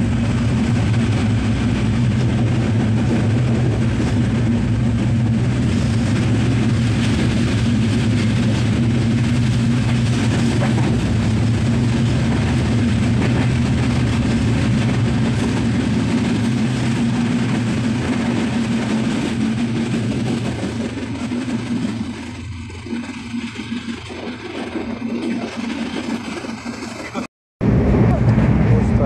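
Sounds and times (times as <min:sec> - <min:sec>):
train rumbling inside carriage: 0:00.0 - 0:29.0.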